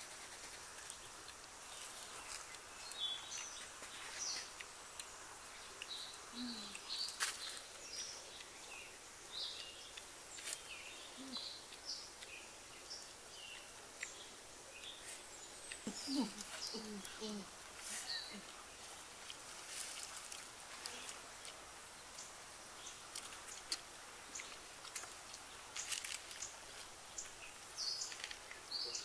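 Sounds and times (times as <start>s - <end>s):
birds chirping: 0.0s - 24.7s, 25.4s - 29.0s
steady outdoor hiss: 0.0s - 29.0s.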